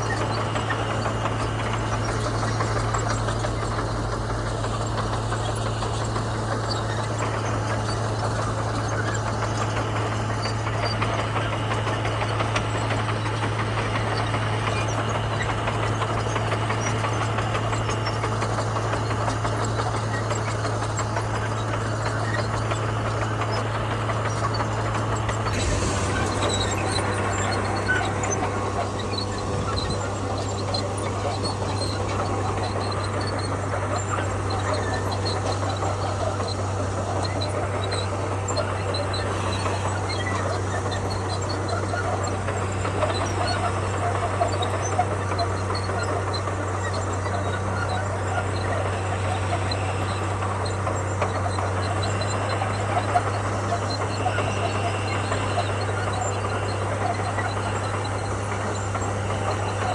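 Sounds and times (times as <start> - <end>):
bulldozer diesel engine drone: 0.0 - 59.9.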